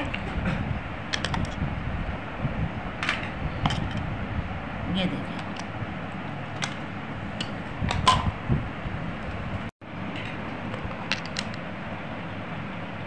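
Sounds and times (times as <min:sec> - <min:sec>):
fan-like background noise: 0:00.0 - 0:13.0.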